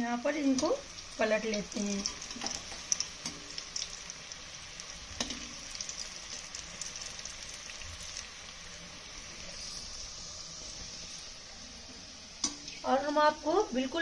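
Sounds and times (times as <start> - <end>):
fritters sizzling in hot oil: 0.0 - 14.0.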